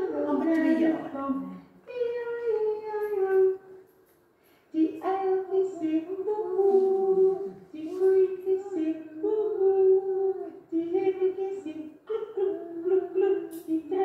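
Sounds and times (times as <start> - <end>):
woman and toddler singing: 1.8 - 3.8, 4.7 - 14.0.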